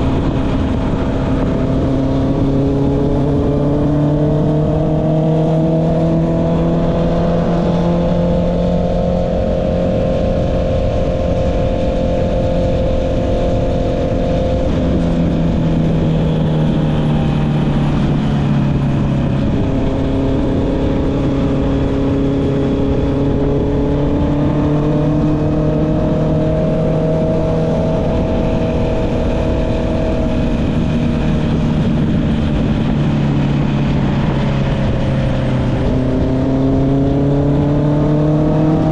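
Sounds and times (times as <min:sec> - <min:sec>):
low wind rumble: 0:00.0 - 0:38.9
motorcycle engine while riding: 0:00.0 - 0:38.9.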